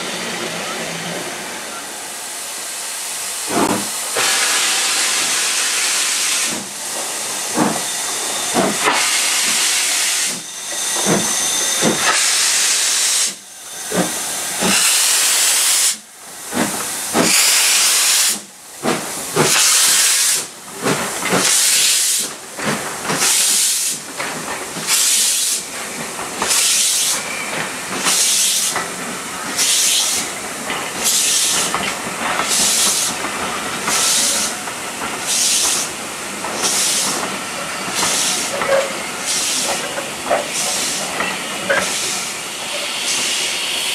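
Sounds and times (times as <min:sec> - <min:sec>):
steady hiss of steam: 0:00.0 - 0:43.9
steam locomotive exhaust chuffing: 0:03.4 - 0:43.9.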